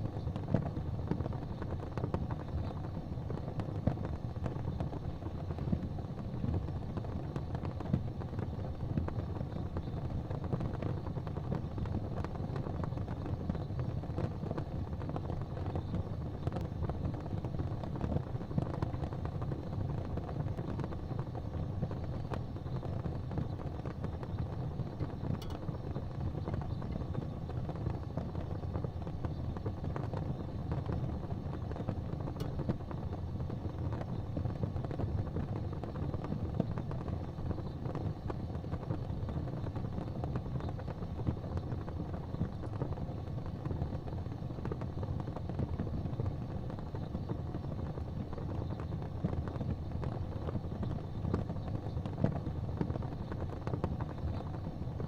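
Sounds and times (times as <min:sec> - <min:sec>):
fire crackles: 0:00.0 - 0:55.0
fireplace fire rumbling: 0:00.0 - 0:55.0.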